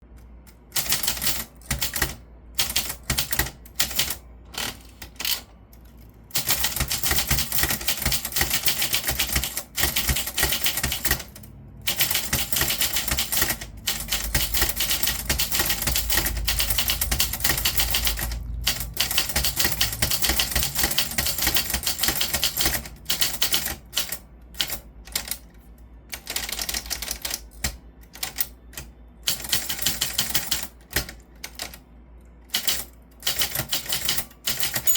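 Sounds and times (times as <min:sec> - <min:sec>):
typewriter keys clicking: 0:00.7 - 0:05.4, 0:06.3 - 0:25.4, 0:26.1 - 0:31.8, 0:32.5 - 0:34.9.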